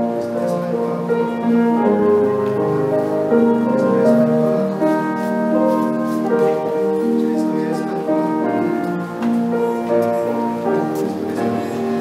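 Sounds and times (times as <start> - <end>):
slow keyboard music: 0.0 - 12.0.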